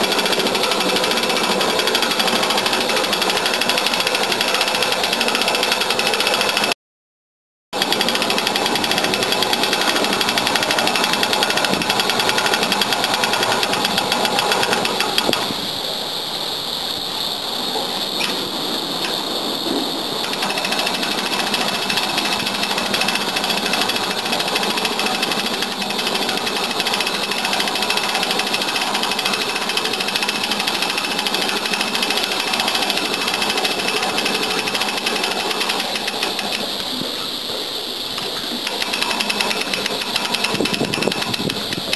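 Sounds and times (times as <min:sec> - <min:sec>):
electric winch whirring: 0:00.0 - 0:06.8, 0:07.8 - 0:41.9.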